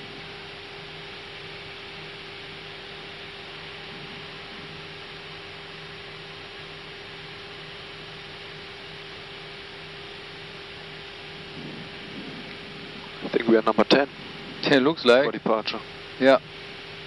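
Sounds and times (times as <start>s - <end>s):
electrical hum: 0.0s - 17.0s
ventilation and engine hiss: 0.0s - 17.0s.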